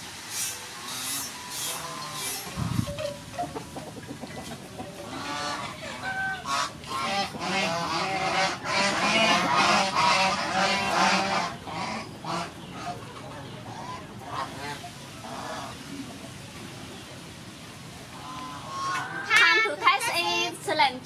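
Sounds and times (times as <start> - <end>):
farmyard fowl calling: 0.3 - 15.9, 18.1 - 19.6.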